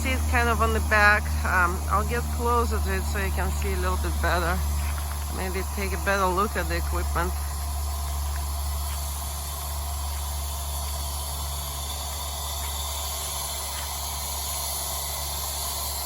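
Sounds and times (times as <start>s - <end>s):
drilling rig drone and hiss: 0.0s - 16.0s.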